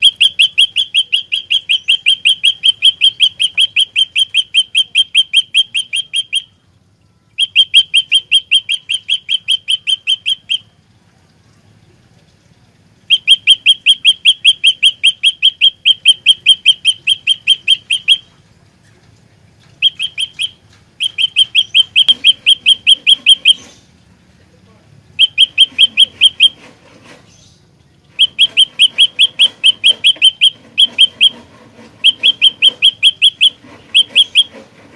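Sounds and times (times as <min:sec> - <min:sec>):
bird chipping: 0:00.0 - 0:06.6, 0:07.4 - 0:10.7, 0:13.1 - 0:18.4, 0:19.8 - 0:23.9, 0:25.2 - 0:27.5, 0:28.1 - 0:34.9.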